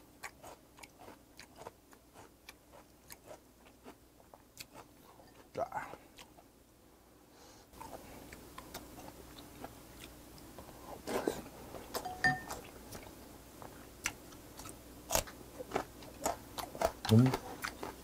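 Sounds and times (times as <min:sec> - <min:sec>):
person chewing food: 0:00.2 - 0:06.5, 0:07.7 - 0:18.0.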